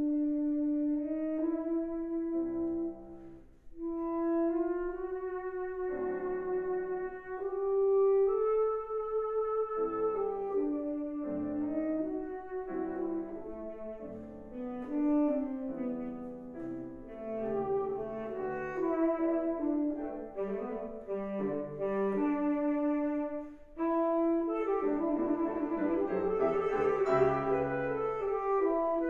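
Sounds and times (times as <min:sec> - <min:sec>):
piano accompaniment: 0:00.0 - 0:29.0
tenor saxophone melody: 0:00.0 - 0:29.0.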